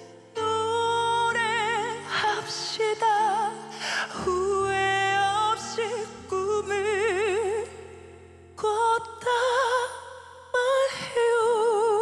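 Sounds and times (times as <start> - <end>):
soft sustained backing music: 0.0 - 12.0
woman singing a slow ballad: 0.0 - 12.0.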